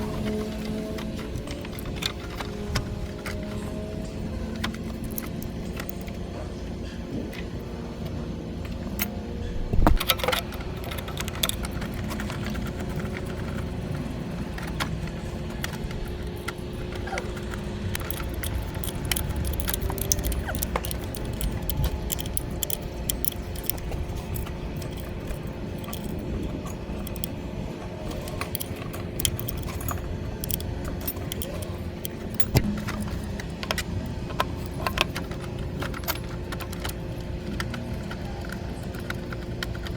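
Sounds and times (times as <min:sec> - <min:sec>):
metal tools clinking and clanking: 0:00.0 - 0:07.4, 0:08.9 - 0:39.9
steady low hum: 0:00.0 - 0:39.9.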